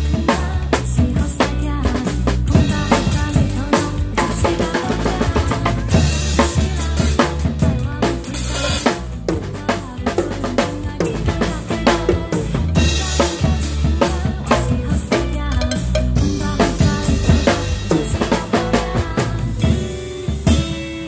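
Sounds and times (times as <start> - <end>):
drum kit playing: 0.0 - 21.0
pop backing track: 0.0 - 21.0.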